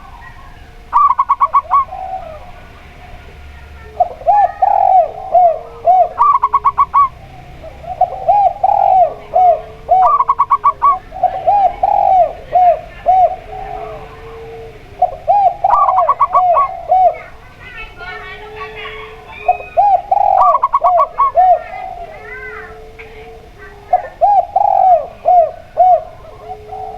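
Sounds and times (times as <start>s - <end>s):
doves cooing: 0.0s - 26.9s.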